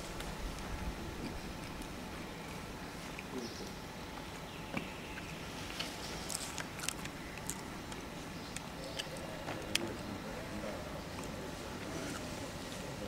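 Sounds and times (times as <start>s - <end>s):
crowd background noise: 0.0s - 13.0s.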